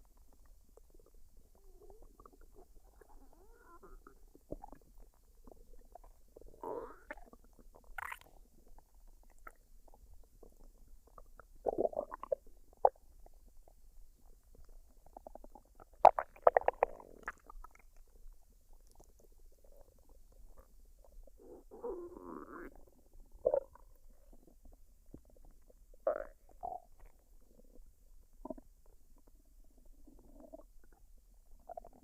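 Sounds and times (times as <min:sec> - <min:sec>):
stomach gurgling: 0:00.0 - 0:32.0.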